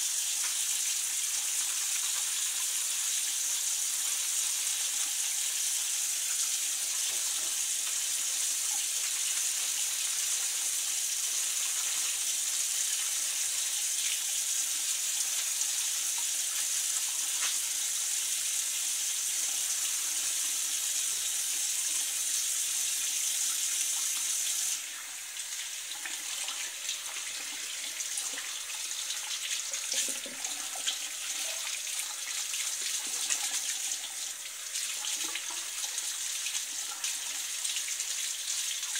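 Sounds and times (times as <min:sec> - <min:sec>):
faucet running into sink: 0:00.0 - 0:38.9.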